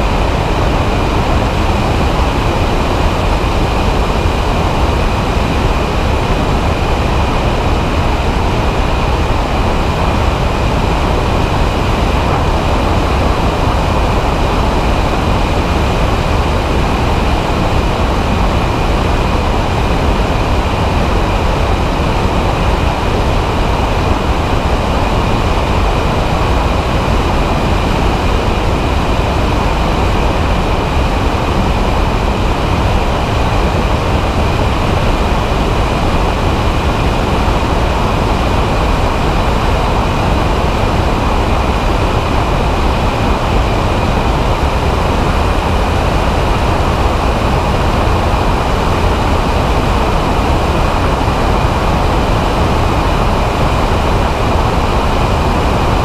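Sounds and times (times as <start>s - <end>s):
engine and propeller droning: 0.0s - 56.0s
wind rush on microphone: 0.0s - 56.0s.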